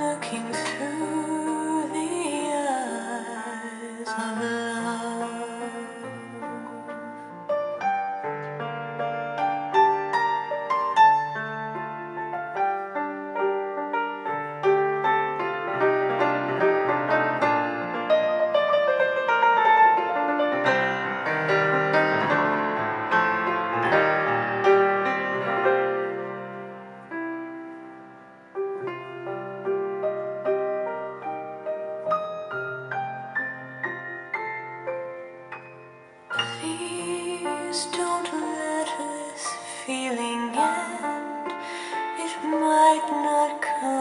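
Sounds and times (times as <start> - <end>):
solo piano through a speaker: 0.0 - 44.0.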